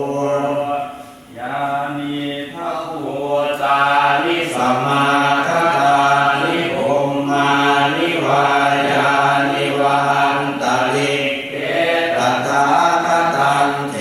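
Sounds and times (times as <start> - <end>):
voices chanting on a low pitch: 0.0 - 14.0.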